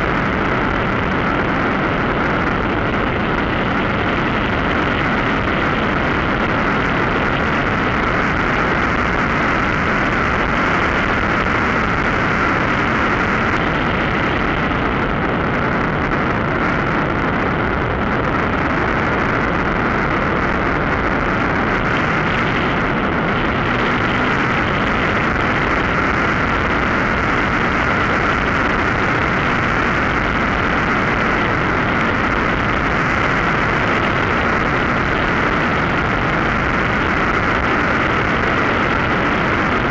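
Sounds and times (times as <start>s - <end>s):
two-stroke engine and propeller: 0.0s - 39.9s.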